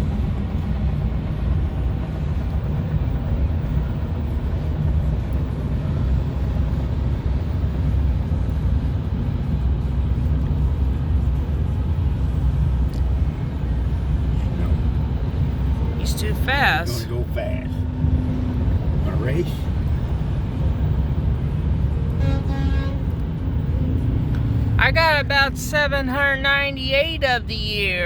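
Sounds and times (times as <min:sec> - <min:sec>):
rumble of engines and traffic: 0:00.0 - 0:28.0.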